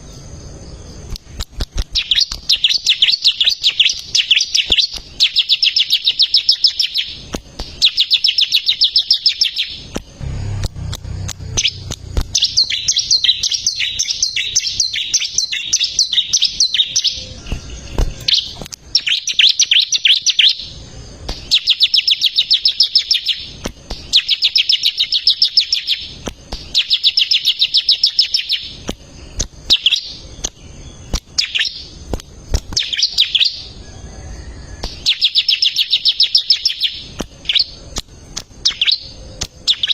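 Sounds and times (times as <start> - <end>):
bird singing high chirping notes: 2.0 - 28.8, 32.8 - 37.8, 38.6 - 39.9.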